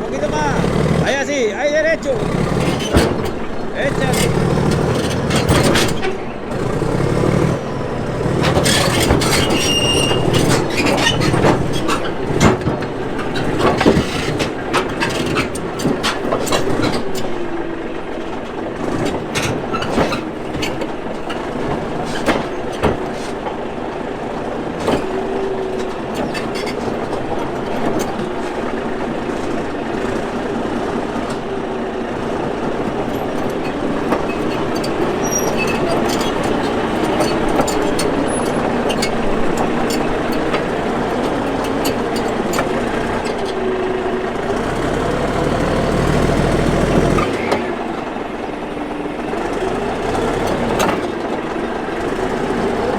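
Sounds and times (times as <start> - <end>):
tracks squealing: 0.0 - 17.6, 18.7 - 52.3
bulldozer diesel engine running: 0.0 - 52.9
steel tracks clanking: 0.0 - 52.9.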